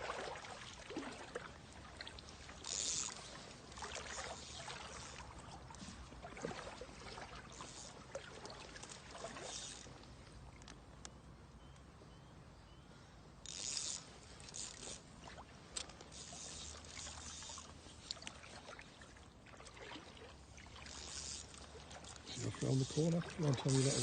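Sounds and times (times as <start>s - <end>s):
water splashing: 0.0s - 10.2s, 14.6s - 24.0s.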